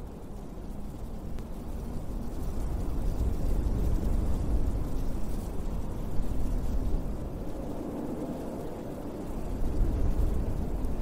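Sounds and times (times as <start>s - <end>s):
wind gusting with blowing snow: 0.0s - 11.0s.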